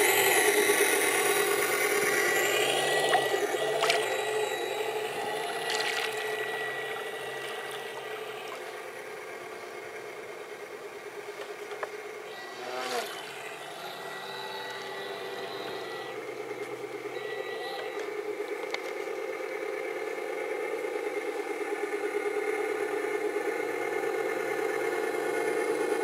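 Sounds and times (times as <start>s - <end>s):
model boat motor buzzing: 0.0s - 26.0s.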